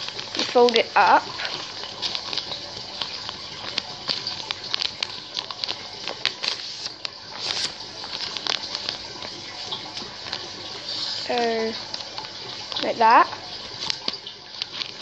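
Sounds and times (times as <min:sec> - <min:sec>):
paper folding and crinkling: 0:00.0 - 0:15.0.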